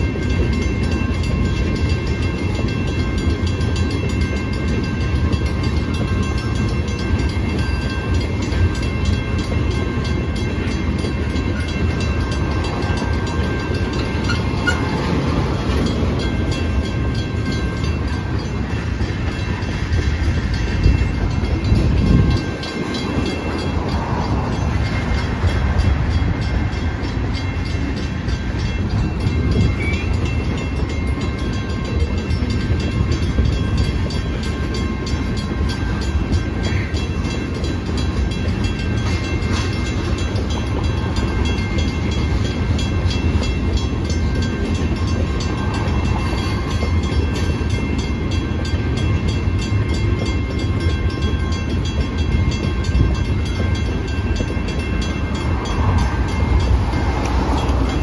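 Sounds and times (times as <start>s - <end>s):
crossing bell ringing: 0.0s - 58.0s
freight train rumbling: 0.0s - 58.0s.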